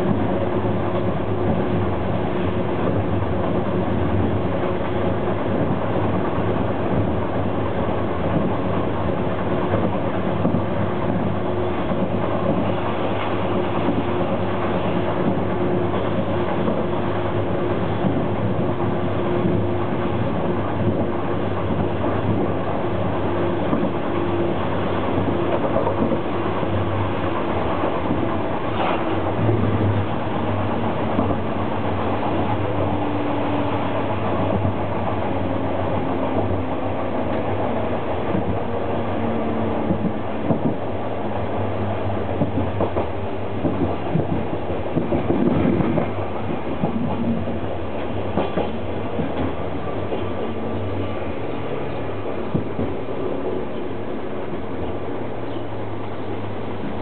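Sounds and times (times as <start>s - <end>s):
railcar engine hum: 0.0s - 57.0s
wheels rumbling on rails: 0.0s - 57.0s.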